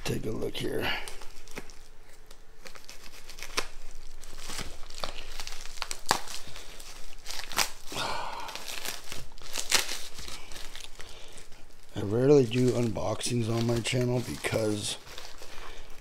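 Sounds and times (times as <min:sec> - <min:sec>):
tape crackling and snapping: 0:00.2 - 0:16.0
tape ripping: 0:01.1 - 0:16.0.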